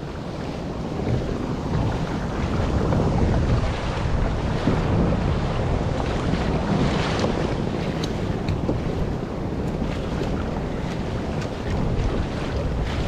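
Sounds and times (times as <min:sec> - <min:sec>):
small waves splashing on hull: 0:00.0 - 0:13.0
wind buffeting microphone: 0:00.0 - 0:13.0.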